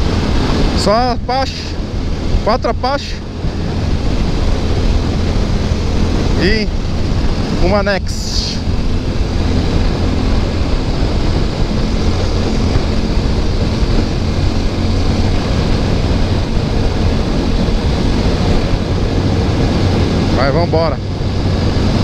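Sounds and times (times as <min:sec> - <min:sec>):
motorcycle engine drone: 0:00.0 - 0:22.0
wind rush over microphone: 0:00.0 - 0:22.0.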